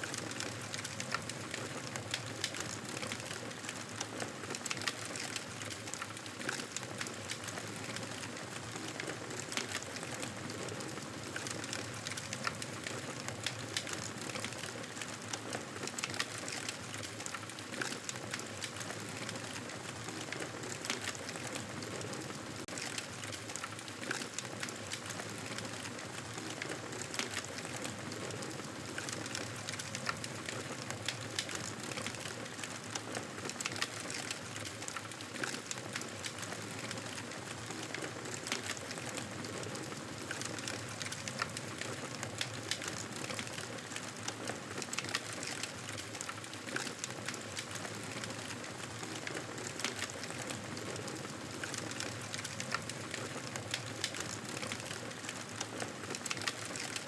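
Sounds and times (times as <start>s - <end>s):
campfire crackling and hissing: 0.0s - 57.0s.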